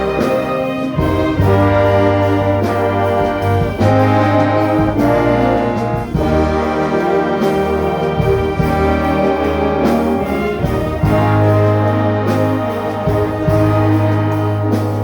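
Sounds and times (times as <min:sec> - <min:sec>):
brass section: 0:00.0 - 0:15.0
orchestra playing: 0:00.0 - 0:15.0.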